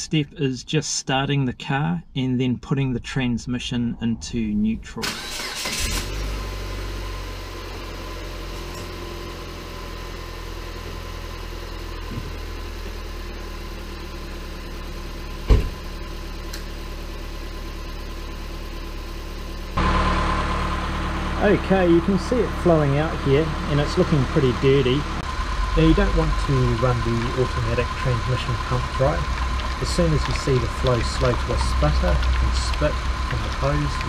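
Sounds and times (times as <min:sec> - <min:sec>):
car engine idling: 0:05.1 - 0:34.0.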